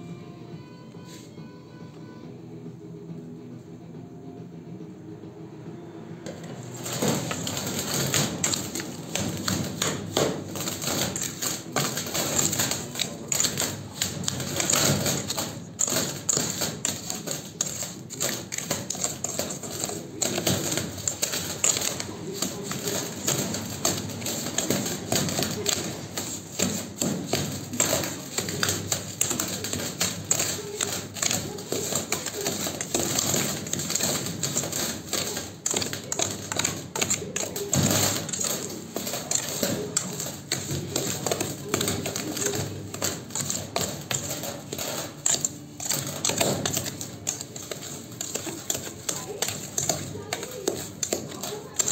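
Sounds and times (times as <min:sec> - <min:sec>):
hands mixing in steel bowl: 0:06.3 - 0:51.9.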